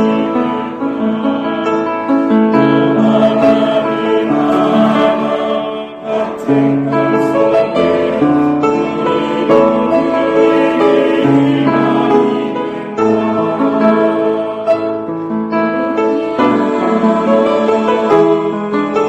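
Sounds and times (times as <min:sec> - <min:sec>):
choir singing a hymn: 0:00.0 - 0:19.0
piano: 0:00.0 - 0:19.0.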